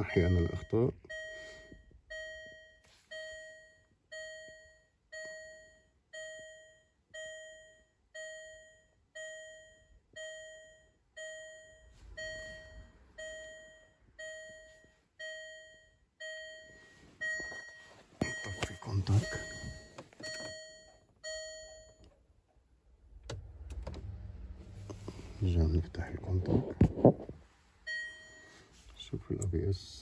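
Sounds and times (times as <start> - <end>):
dashboard warning chime: 0.0 - 22.3, 27.8 - 30.0.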